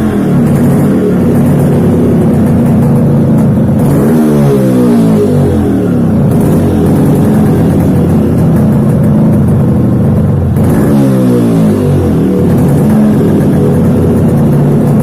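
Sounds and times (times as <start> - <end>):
two-stroke motorbike engine revving: 0.0 - 15.0.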